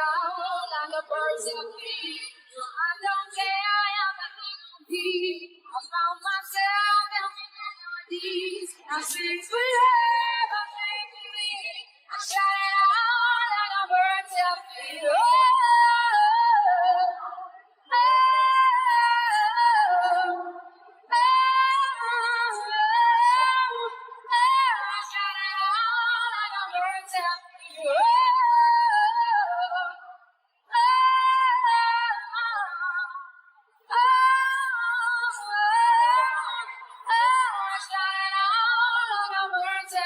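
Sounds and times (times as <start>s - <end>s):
woman singing: 0.0s - 40.0s.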